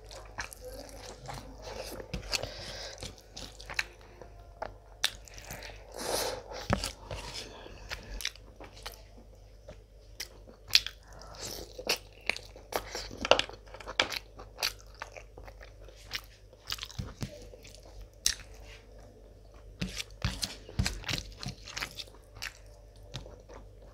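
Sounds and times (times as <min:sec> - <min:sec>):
chewing with crunches: 0:00.0 - 0:23.9.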